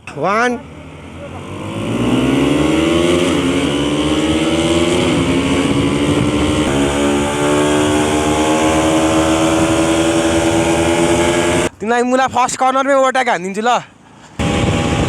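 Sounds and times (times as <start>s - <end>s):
motorcycle engine accelerating: 0.0s - 11.8s, 14.4s - 15.0s.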